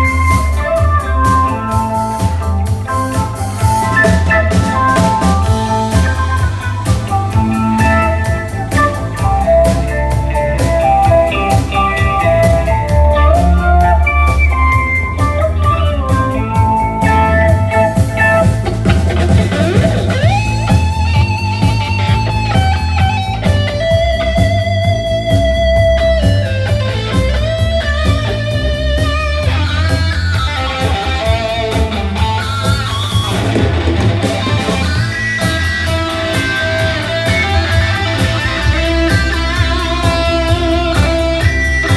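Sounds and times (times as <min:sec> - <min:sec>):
bass and drums: 0:00.0 - 0:41.9
electric guitar sliding notes: 0:00.0 - 0:41.9.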